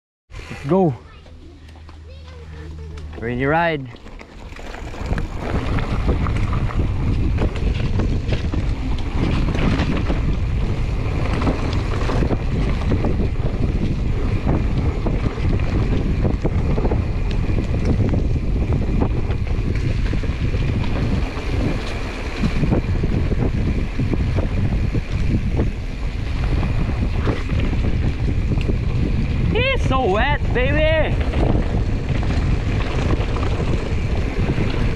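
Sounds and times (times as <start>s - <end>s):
bike tyres on dirt trail: 0.3s - 34.9s
wind buffeting microphone: 0.4s - 34.9s
bike clicks and rattles: 1.2s - 29.5s, 31.0s - 34.9s.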